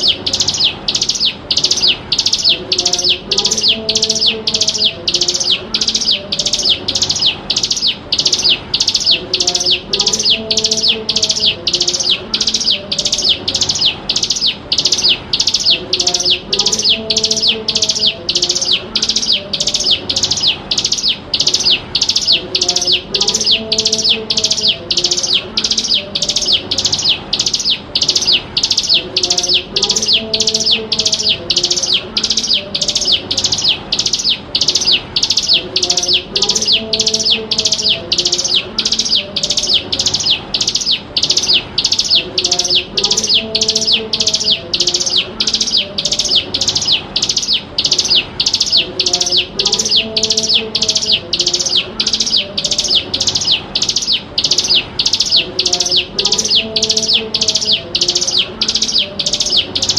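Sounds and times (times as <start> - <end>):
bird calling high sharp notes: 0.0 - 59.9.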